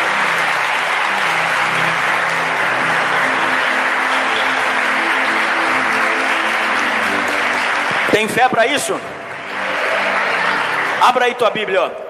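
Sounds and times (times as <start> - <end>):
electronic keyboard chords: 0.0 - 11.8
congregation applause: 0.0 - 12.0.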